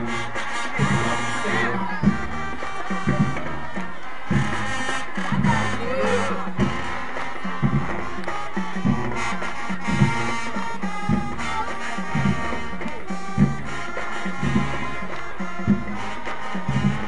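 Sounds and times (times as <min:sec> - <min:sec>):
brass chords: 0:00.0 - 0:17.0.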